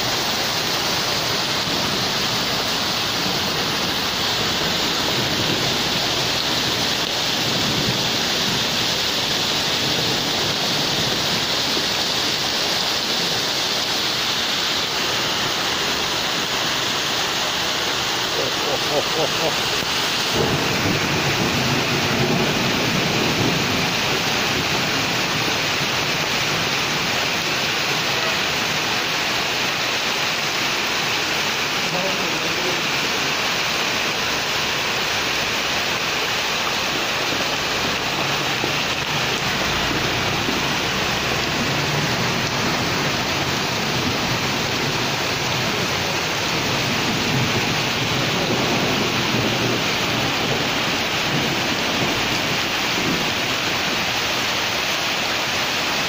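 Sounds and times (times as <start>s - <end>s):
heavy rain on pavement: 0.0s - 56.0s
running runoff water: 0.0s - 56.0s.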